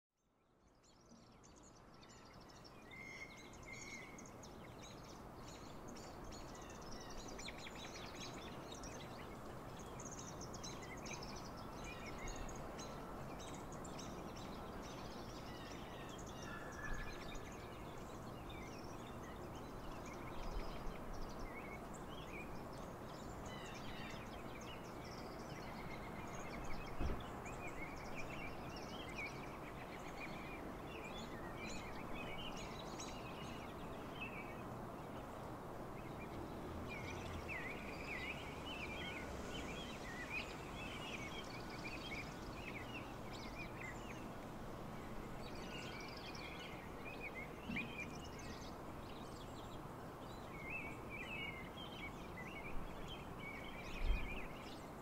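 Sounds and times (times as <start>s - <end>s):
small birds chirping: 0.2s - 55.0s
steady background hiss: 0.3s - 55.0s.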